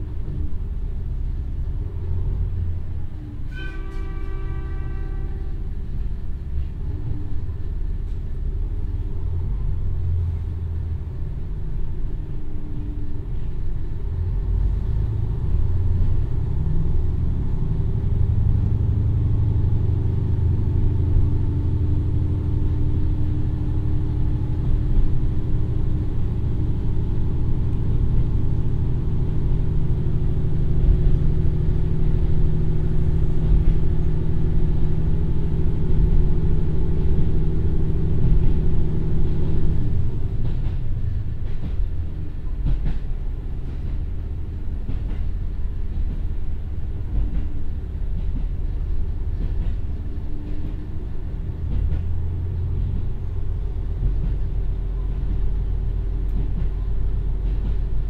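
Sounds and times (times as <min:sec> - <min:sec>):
diesel railcar engine pulling: 0:00.0 - 0:58.0
train wheels rumbling: 0:00.0 - 0:58.0.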